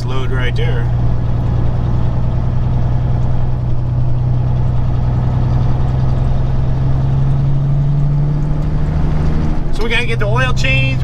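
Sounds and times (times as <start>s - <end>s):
diesel truck engine droning: 0.0s - 11.0s.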